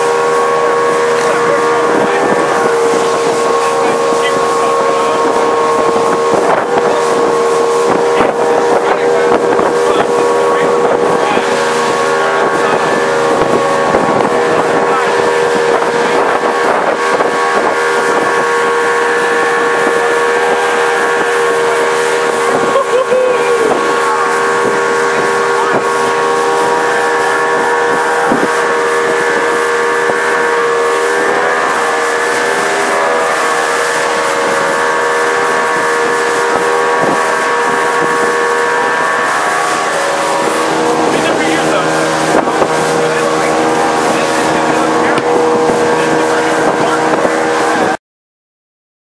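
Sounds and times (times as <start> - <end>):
motorboat engine running: 0.0 - 48.0
water rushing past hull: 0.0 - 48.0.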